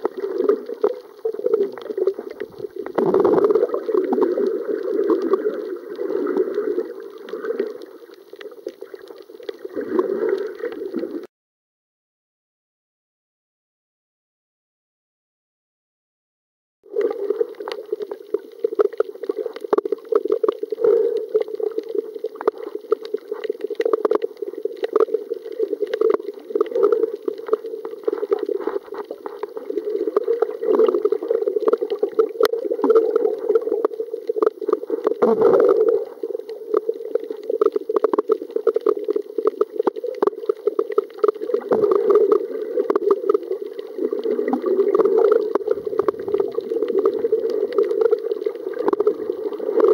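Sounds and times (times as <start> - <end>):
deep gurgle: 0.0 - 11.3, 16.8 - 49.9
muffled underwater water rush: 0.0 - 11.3, 16.9 - 49.9
small underwater crackles and clicks: 0.0 - 11.3, 16.8 - 49.9.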